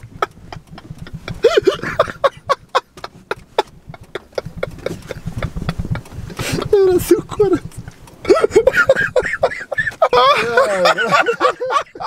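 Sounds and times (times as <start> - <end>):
men laughing hard: 0.0 - 12.0.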